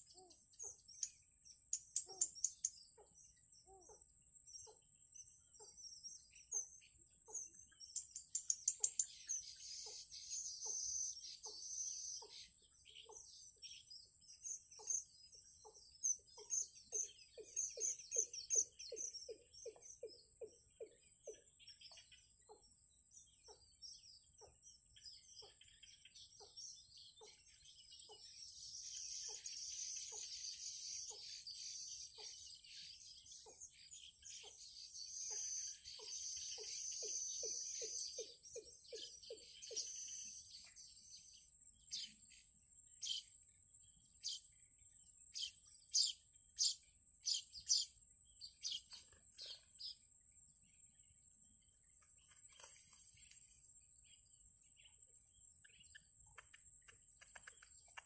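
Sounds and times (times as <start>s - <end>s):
birds twittering: 0.0s - 58.0s.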